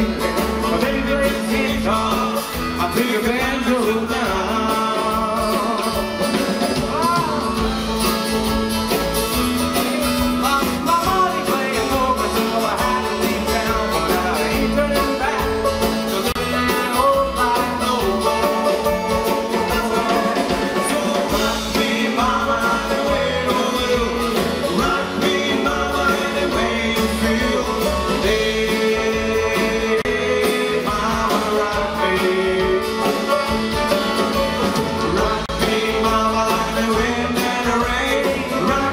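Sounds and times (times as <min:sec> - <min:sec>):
bluegrass string instrumental: 0:00.0 - 0:38.9.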